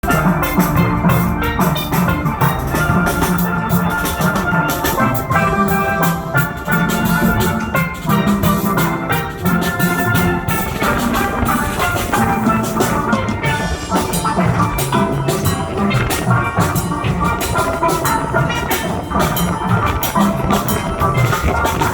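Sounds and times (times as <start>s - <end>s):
band playing upbeat music: 0.0s - 21.9s
drums with steady beat: 0.0s - 21.9s
melodic pitched percussion: 0.0s - 21.9s.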